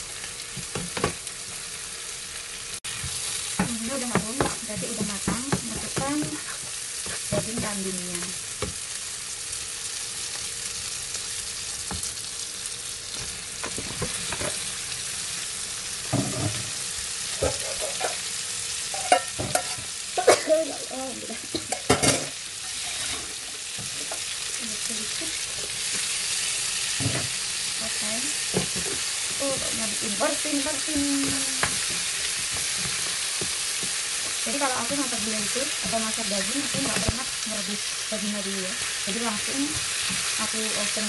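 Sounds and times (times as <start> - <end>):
paste sizzling in frying pan: 0.0 - 41.0.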